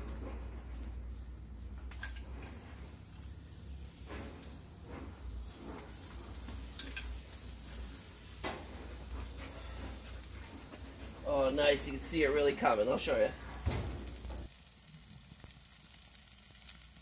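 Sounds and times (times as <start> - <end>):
low steady rumble: 0.0 - 14.6
fish sizzling on a grill: 0.0 - 17.0.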